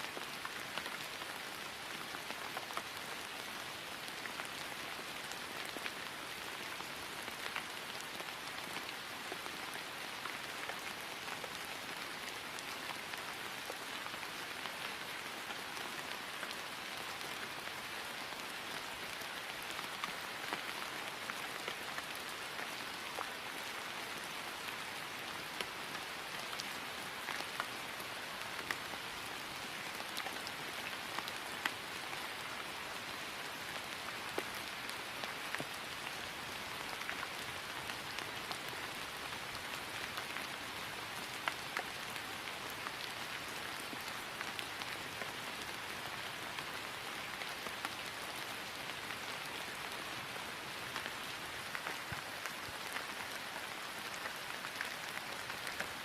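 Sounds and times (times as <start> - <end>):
rain falling on grass: 0.0 - 56.0.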